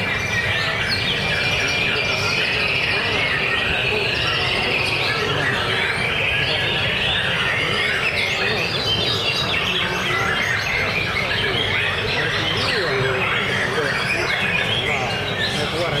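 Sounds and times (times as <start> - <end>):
many songbirds singing: 0.0 - 16.0.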